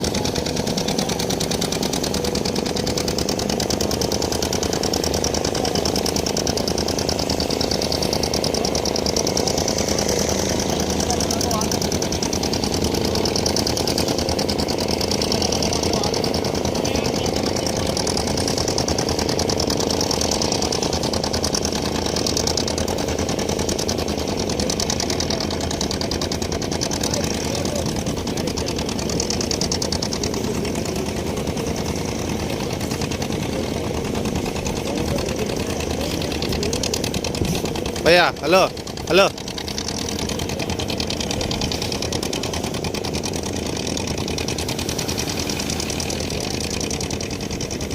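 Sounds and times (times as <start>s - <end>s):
boat engine knocking: 0.0s - 47.9s.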